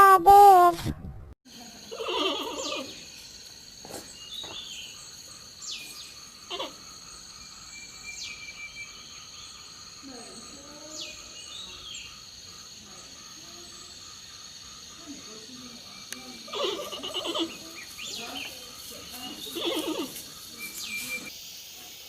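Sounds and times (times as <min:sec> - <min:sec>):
high insect trill: 0:01.5 - 0:22.0.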